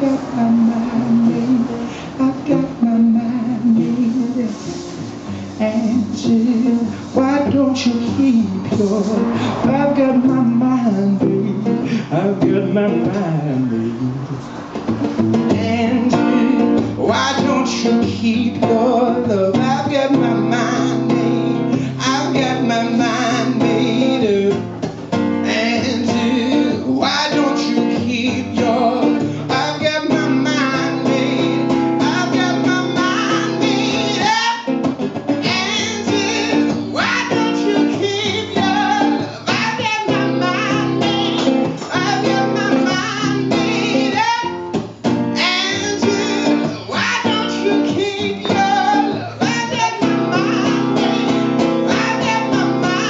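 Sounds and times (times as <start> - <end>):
man singing: 0.0 - 14.4, 15.3 - 53.0
strummed acoustic guitar: 0.0 - 53.0.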